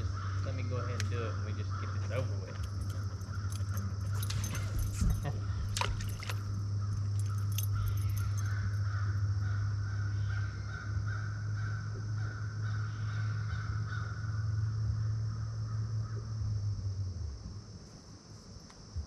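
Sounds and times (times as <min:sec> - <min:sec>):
faint wavering whine: 0:00.0 - 0:19.0
low motor hum: 0:00.0 - 0:19.0.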